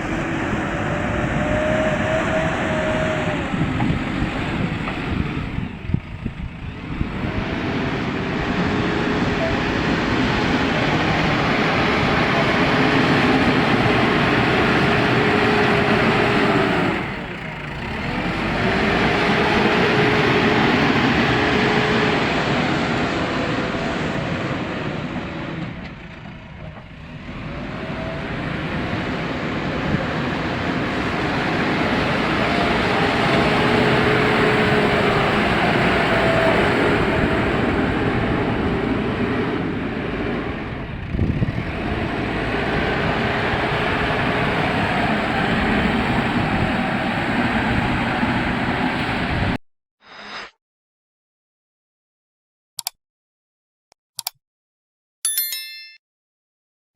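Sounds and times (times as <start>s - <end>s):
diesel engine revving under load: 0.0s - 49.6s.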